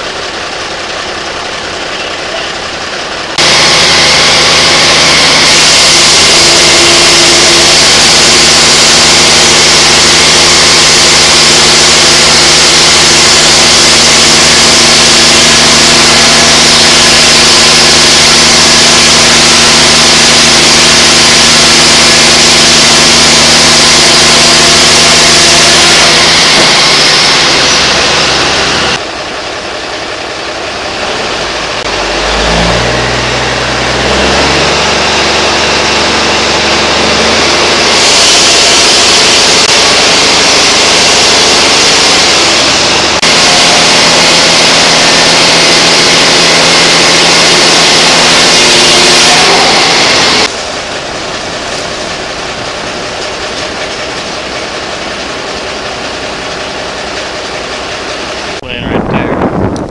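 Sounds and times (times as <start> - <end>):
low engine note: 0.0 - 59.9
sawmill machinery running: 0.0 - 59.9.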